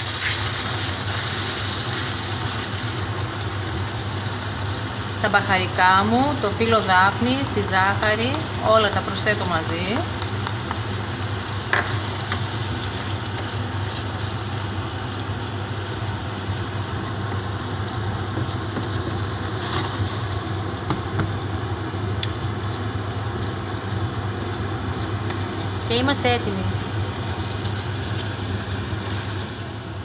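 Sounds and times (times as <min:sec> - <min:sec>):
sauce simmering in a pan: 0:00.0 - 0:25.9, 0:26.8 - 0:30.0.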